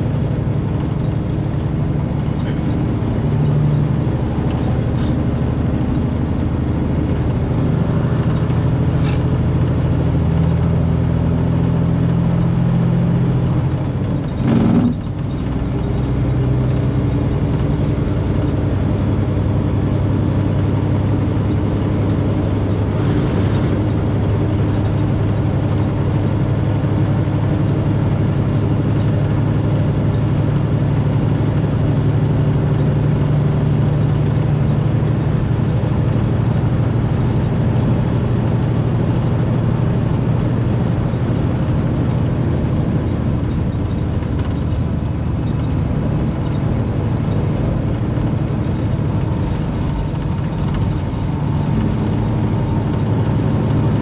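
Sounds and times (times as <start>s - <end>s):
truck engine droning: 0.0s - 54.0s.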